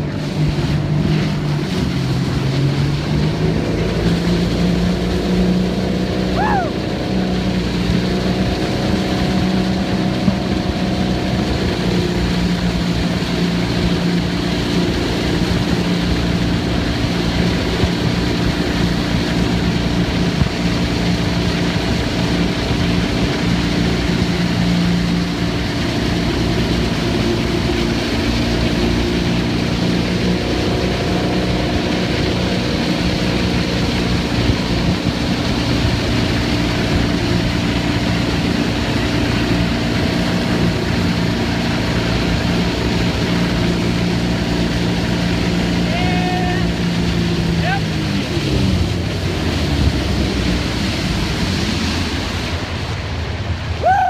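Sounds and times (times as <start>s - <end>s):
motorboat engine running: 0.0s - 54.0s
rush of water spray: 0.0s - 54.0s.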